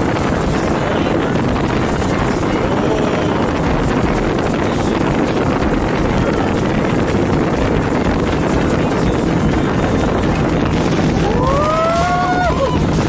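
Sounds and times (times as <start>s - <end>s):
speedboat motor running: 0.0s - 13.0s
wind buffeting microphone: 0.0s - 13.0s.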